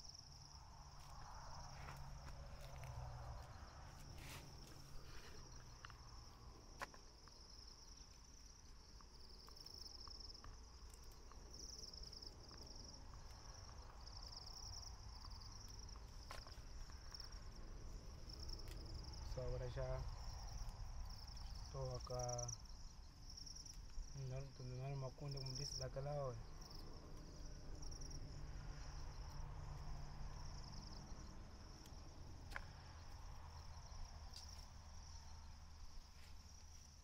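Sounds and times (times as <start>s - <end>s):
insect chirring: 0.0s - 37.0s.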